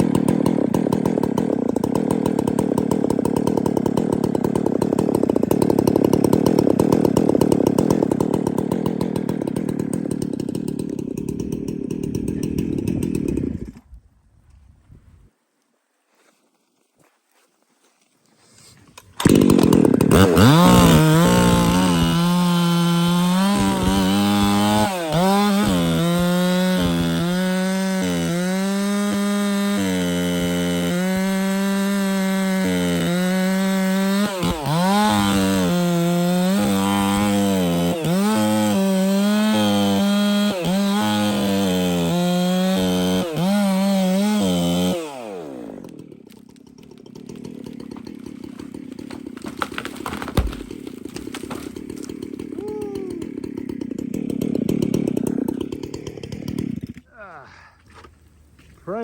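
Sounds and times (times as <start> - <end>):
chainsaw cutting wood: 0.0 - 13.9, 18.6 - 57.1.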